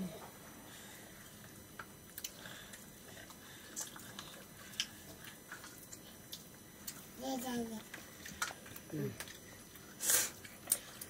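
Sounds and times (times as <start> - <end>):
faint chewing: 1.4 - 7.1, 7.8 - 11.0.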